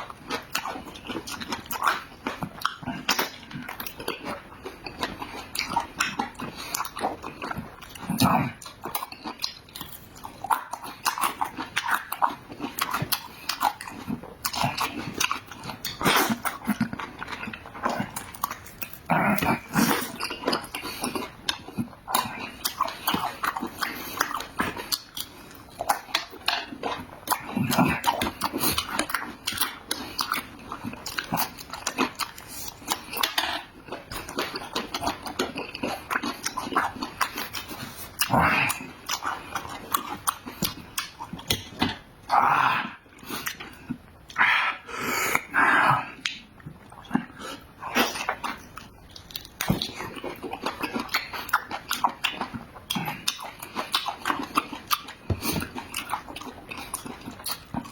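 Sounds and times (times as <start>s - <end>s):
person chewing and smacking food: 0.0s - 57.9s.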